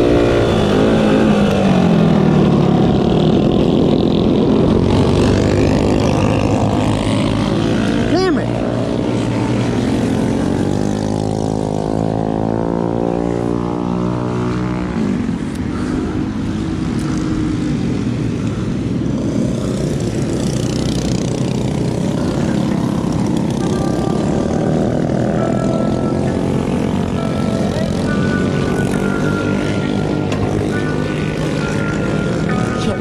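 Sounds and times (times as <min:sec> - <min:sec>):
small motorbike engine running: 0:00.0 - 0:33.0.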